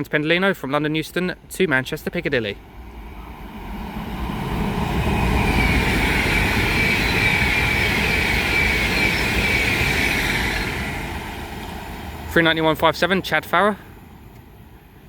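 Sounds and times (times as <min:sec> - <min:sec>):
electric train passing: 0:00.9 - 0:15.0.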